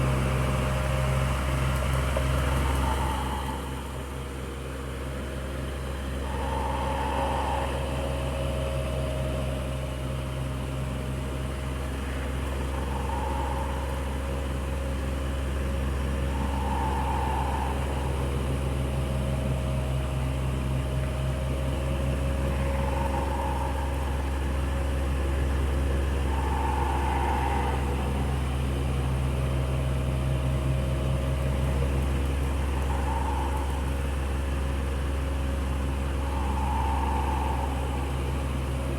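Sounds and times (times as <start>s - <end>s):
electric fan running: 5.7s - 10.1s, 11.7s - 38.9s.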